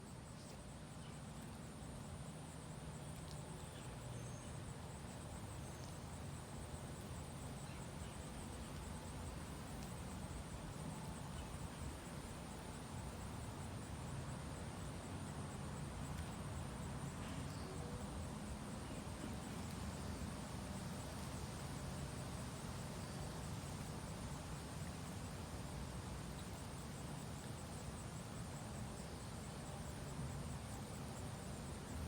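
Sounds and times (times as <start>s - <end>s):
outdoor background hum and hiss: 0.0s - 32.0s.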